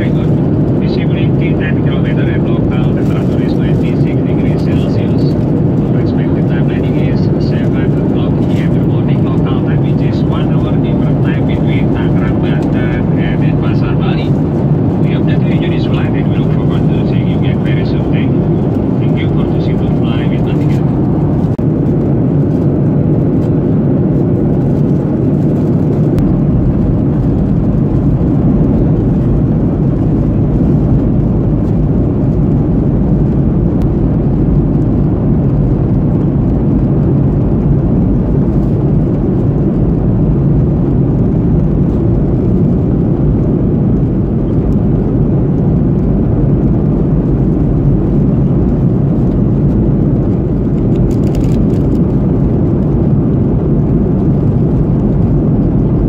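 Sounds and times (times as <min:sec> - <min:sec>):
airliner cabin roar: 0:00.0 - 0:56.0.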